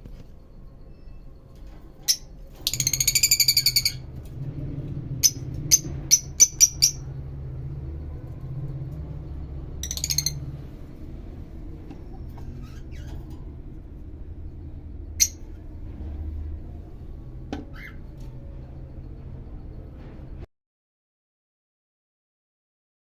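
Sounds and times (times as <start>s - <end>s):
steady low hum: 0.0s - 20.5s.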